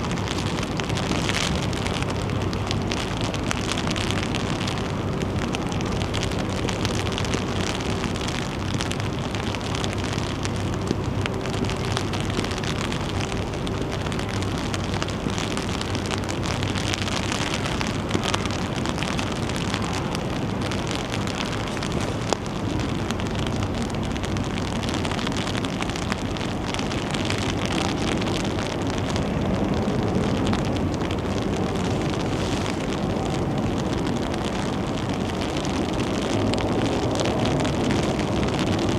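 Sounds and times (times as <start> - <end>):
low steady hum: 0.0 - 38.9
rain hissing: 0.0 - 38.9.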